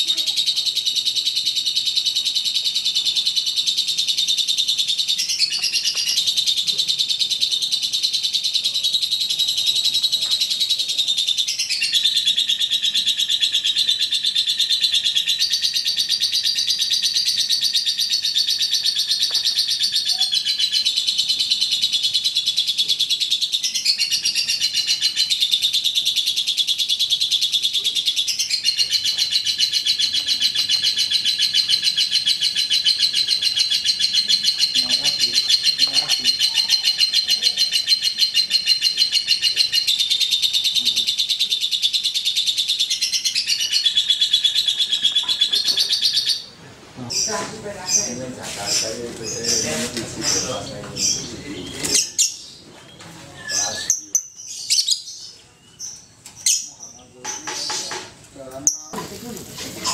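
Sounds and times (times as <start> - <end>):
lovebird chattering song: 0.0 - 59.9.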